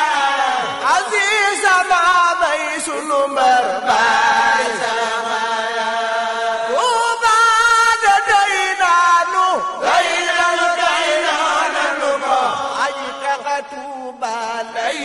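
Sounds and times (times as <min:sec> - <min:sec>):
person chanting devotional melody: 0:00.0 - 0:15.0.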